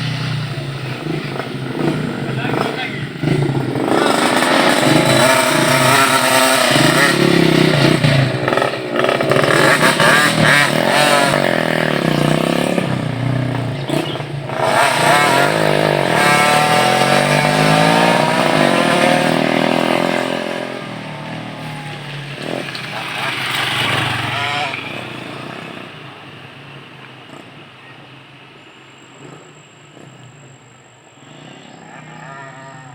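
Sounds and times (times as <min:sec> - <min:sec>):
motorbike engine revving: 0:00.0 - 0:32.9.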